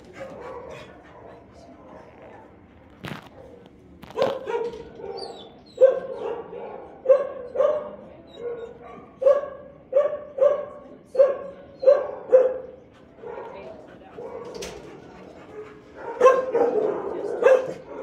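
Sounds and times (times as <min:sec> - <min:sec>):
dog barking: 0:00.1 - 0:01.3, 0:04.1 - 0:18.0.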